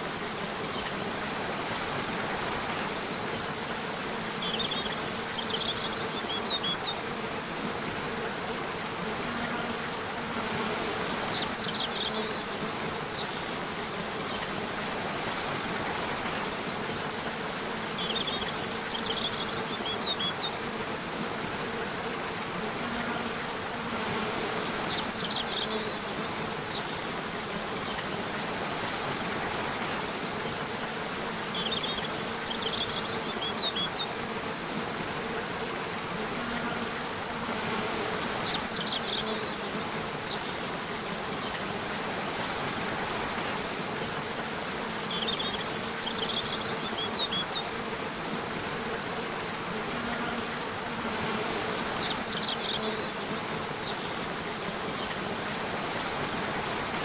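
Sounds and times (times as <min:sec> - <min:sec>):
flying insects buzzing: 0:00.0 - 0:57.0
rushing hiss like a stream: 0:00.0 - 0:57.0.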